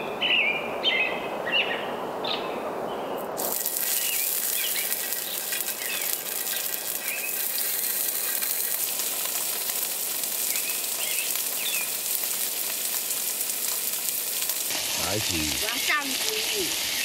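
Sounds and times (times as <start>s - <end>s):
birds chirping: 0.0s - 17.0s
food sizzling on a griddle: 3.4s - 17.0s.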